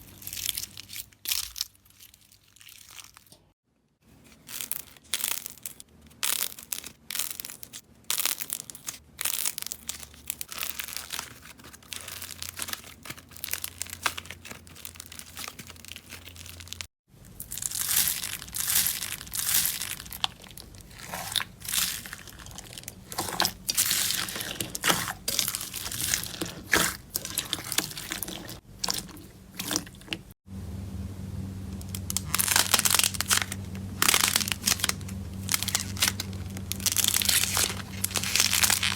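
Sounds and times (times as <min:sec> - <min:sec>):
slime squishing and crackling: 0:00.0 - 0:03.5, 0:04.2 - 0:30.3, 0:31.8 - 0:38.9.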